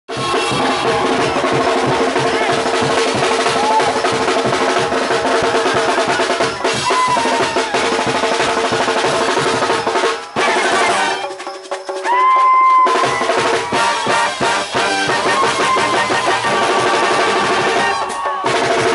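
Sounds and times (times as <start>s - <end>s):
brass band playing: 0.1s - 18.9s
snare and bass drum beat: 0.1s - 18.9s.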